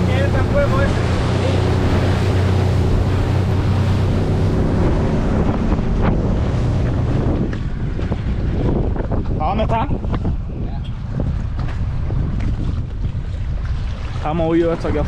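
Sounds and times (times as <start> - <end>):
boat engine humming: 0.0 - 15.0
water rushing: 0.0 - 15.0
wind buffeting microphone: 0.0 - 15.0.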